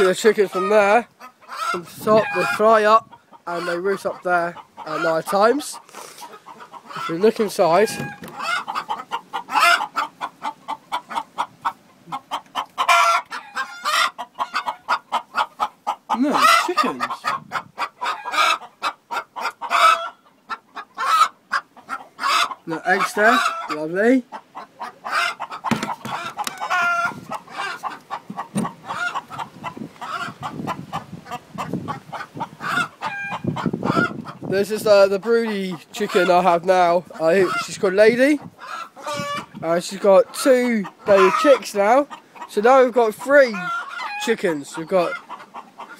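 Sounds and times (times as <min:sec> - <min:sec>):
hen calling loudly: 0:00.0 - 0:45.9
hens clucking: 0:00.0 - 0:45.9.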